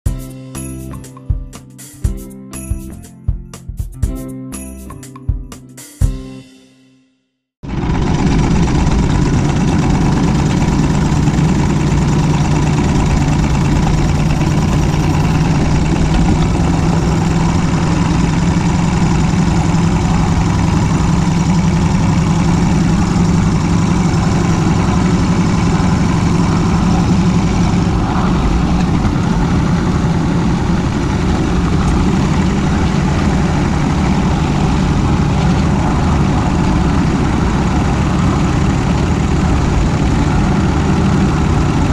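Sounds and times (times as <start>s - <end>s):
steam locomotive running rumble: 7.6s - 41.9s
wheels on rails: 7.7s - 41.9s.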